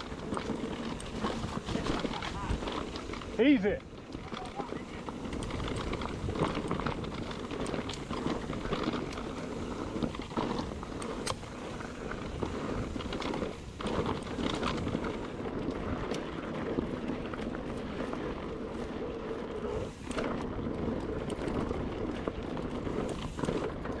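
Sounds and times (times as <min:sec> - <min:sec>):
bike rattling over rocks: 0:00.0 - 0:24.0
tyres crunching on loose stones: 0:00.0 - 0:24.0.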